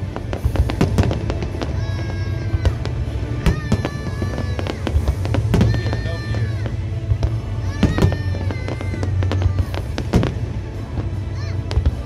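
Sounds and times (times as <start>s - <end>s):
fireworks bangs: 0.0s - 12.0s
fireworks rumble: 0.0s - 12.0s.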